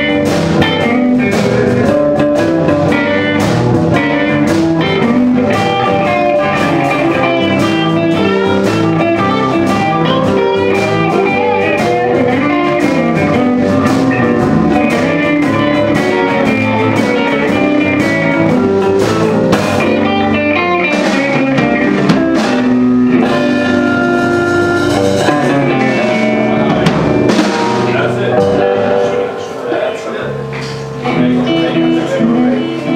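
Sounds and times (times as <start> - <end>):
live blues band playing: 0.0 - 32.9.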